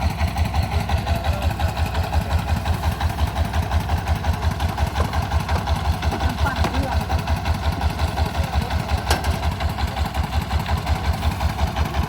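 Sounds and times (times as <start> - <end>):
threshing machine engine thudding: 0.0 - 12.0.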